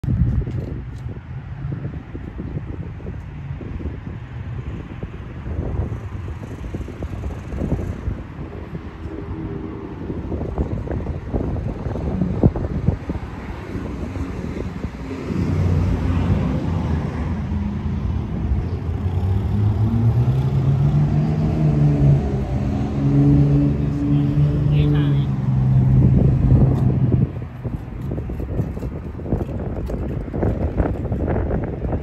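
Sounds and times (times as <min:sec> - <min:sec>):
wind noise on microphone: 0:00.0 - 0:32.0.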